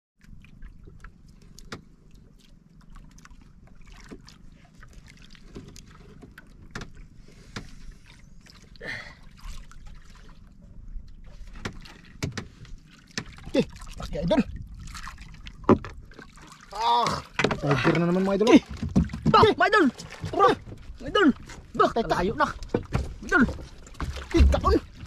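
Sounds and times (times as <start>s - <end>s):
water lapping against boat hull: 0.2s - 25.0s.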